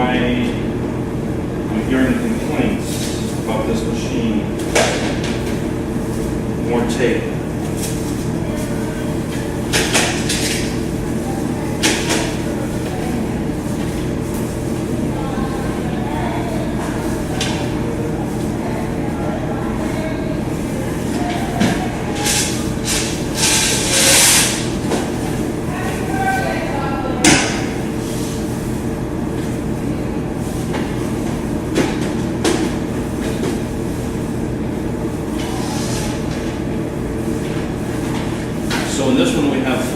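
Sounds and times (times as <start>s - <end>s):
low background hum: 0.0s - 39.9s.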